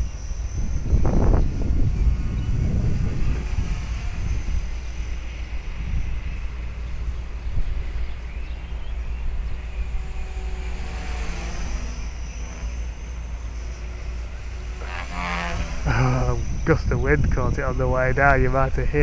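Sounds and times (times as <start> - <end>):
wind rumble on microphone: 0.0 - 10.9, 11.5 - 19.0
electric motor whine: 0.0 - 19.0
rc helicopter rotor blade slap: 0.0 - 19.0.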